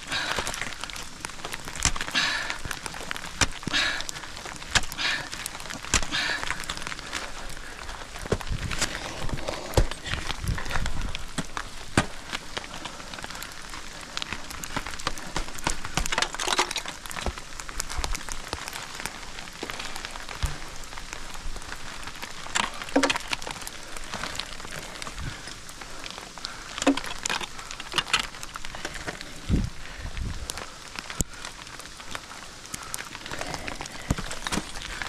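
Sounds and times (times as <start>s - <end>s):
ice axe and crampons on ice: 0.0s - 35.0s
ice chips crackling: 0.0s - 35.0s.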